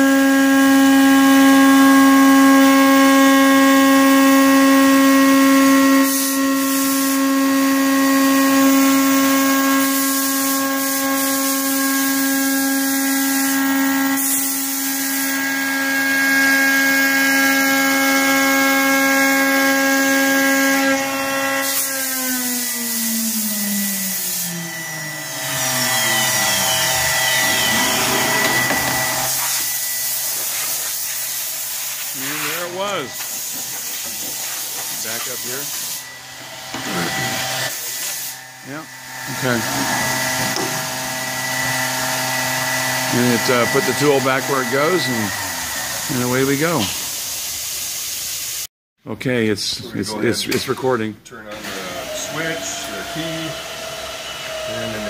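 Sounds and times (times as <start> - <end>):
router spindle whining: 0.0 - 47.1, 51.5 - 55.0.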